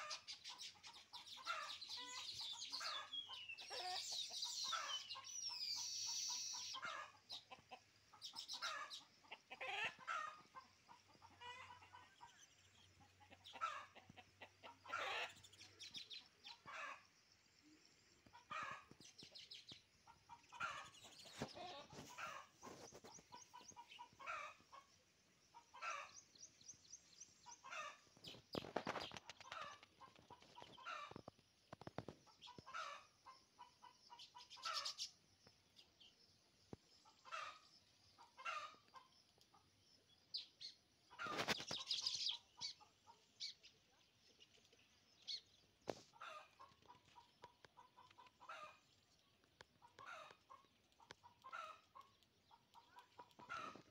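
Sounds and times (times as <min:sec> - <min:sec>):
birds chirping and chattering: 0:00.0 - 0:53.9.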